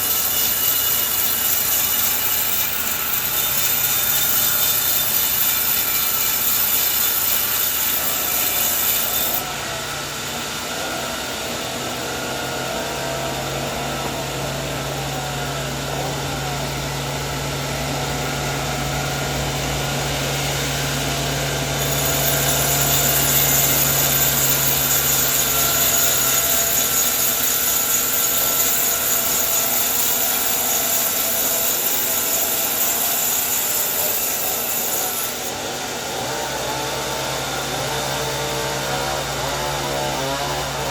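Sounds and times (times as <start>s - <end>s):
machine humming: 0.0s - 33.3s
saw blade hissing through wood: 0.0s - 40.9s.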